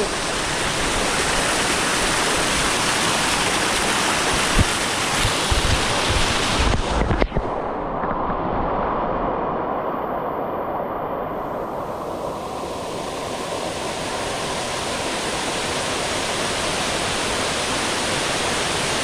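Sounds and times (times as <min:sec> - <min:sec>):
waterfall rushing: 0:00.0 - 0:07.7, 0:10.0 - 0:19.0.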